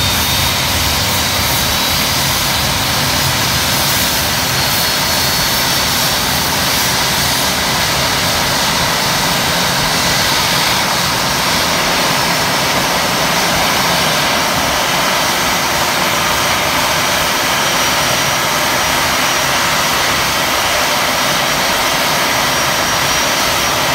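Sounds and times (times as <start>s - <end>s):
jet engine idling roar: 0.0s - 23.9s.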